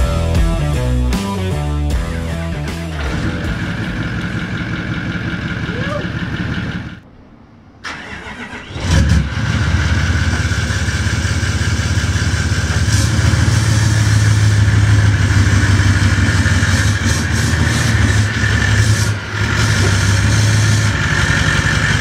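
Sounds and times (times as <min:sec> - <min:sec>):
engine running steadily: 0:01.9 - 0:07.1, 0:08.7 - 0:22.0
engine cranking and starting: 0:02.7 - 0:07.0, 0:07.8 - 0:22.0.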